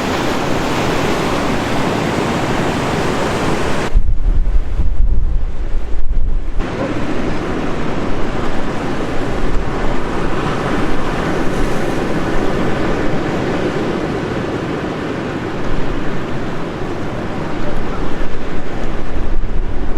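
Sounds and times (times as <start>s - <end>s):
gusting wind: 0.0s - 19.9s
rough sea roaring: 0.0s - 19.9s.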